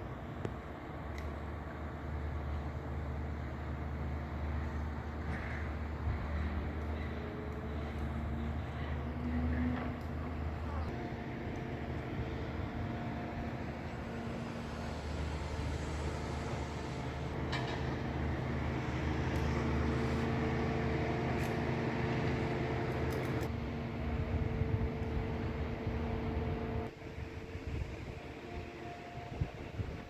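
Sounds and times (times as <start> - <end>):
machine hum: 5.8 - 30.0.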